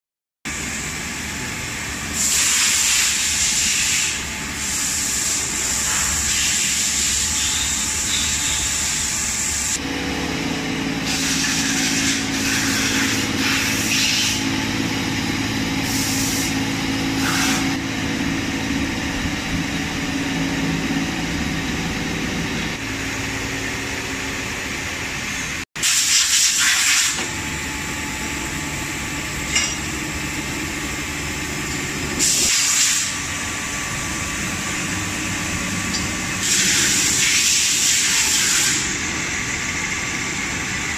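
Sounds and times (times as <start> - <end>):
machine hum with held tones: 0.5 - 25.7, 27.1 - 40.9.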